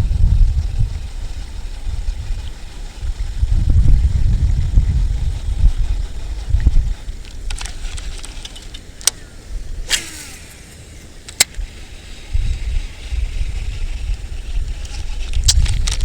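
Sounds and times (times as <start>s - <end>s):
short falling whir: 0.0s - 16.0s
wind buffeting microphone: 0.0s - 16.0s.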